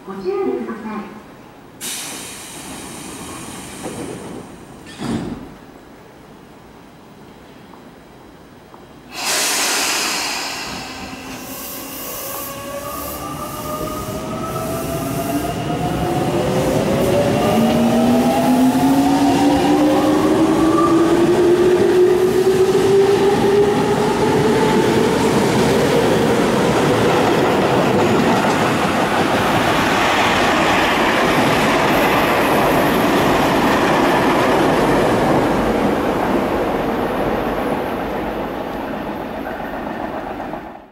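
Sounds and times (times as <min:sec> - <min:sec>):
train wheels on rails: 0:01.8 - 0:05.7, 0:08.7 - 0:40.9.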